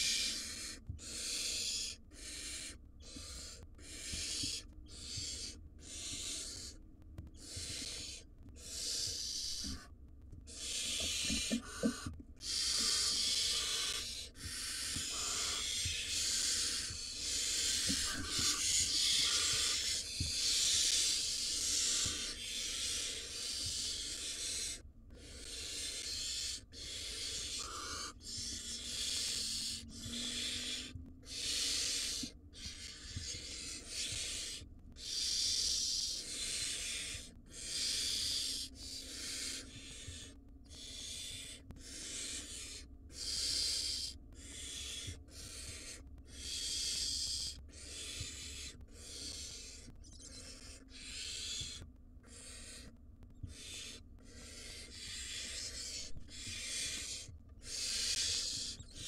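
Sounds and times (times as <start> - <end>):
owl chicks hissing begging calls: 0.0 - 9.9, 10.5 - 59.0.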